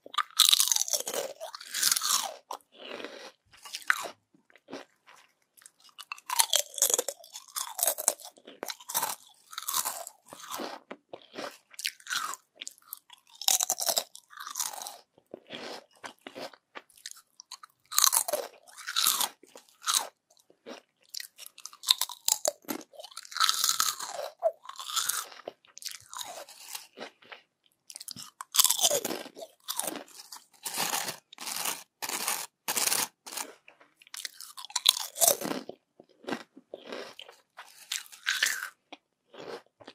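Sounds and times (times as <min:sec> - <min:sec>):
crunchy chips being chewed: 0:00.0 - 0:39.9.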